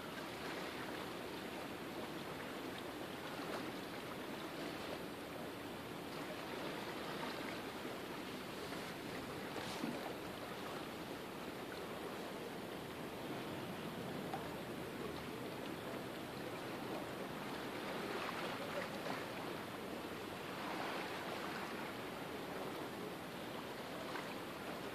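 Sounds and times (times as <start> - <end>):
small waves lapping against wall: 0.0 - 24.9.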